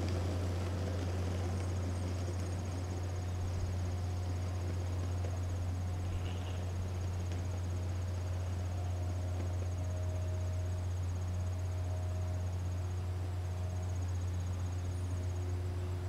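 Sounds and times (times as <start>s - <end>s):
crickets trilling: 0.0s - 16.0s
steady low hum: 0.0s - 16.0s.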